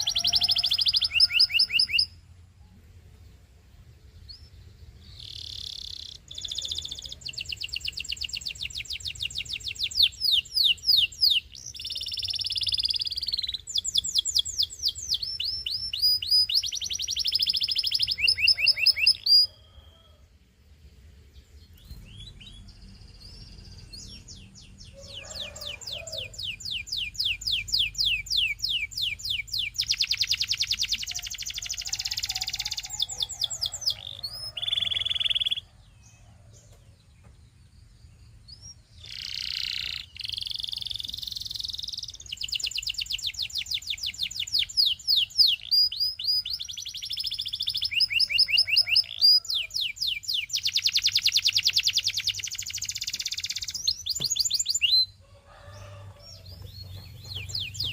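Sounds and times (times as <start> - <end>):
canary singing trills: 0.0 - 2.4, 4.1 - 20.2, 20.9 - 57.9.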